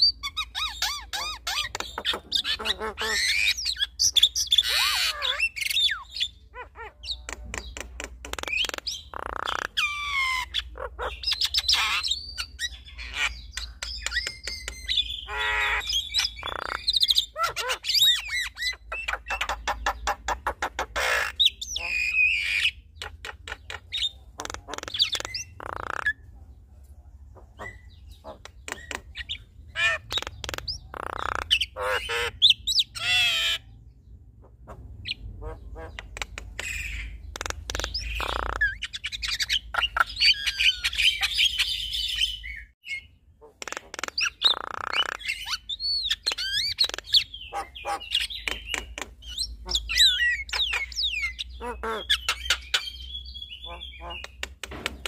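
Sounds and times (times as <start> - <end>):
birds calling in a duet: 0.0 - 26.3, 27.4 - 55.0.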